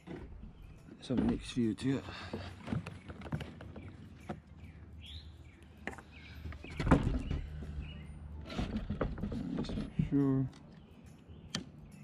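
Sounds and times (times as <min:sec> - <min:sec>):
bird chirp: 0:00.2 - 0:08.6, 0:10.0 - 0:12.0.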